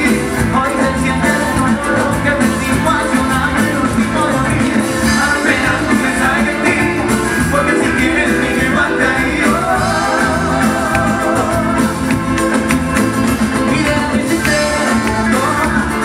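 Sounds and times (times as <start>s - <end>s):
live band playing latin pop: 0.0s - 16.0s.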